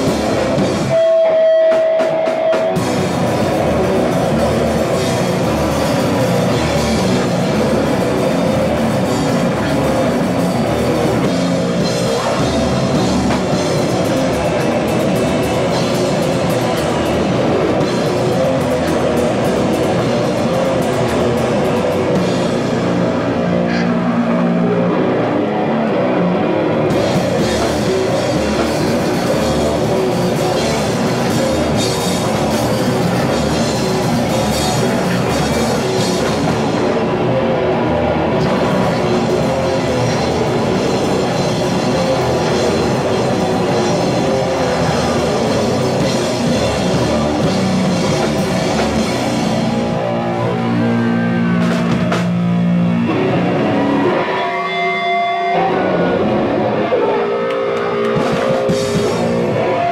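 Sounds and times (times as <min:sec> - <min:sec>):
fast dense drumming: 0:00.0 - 0:24.1, 0:26.9 - 0:52.9, 0:58.0 - 0:59.8
distorted guitar and bass: 0:00.0 - 0:59.9.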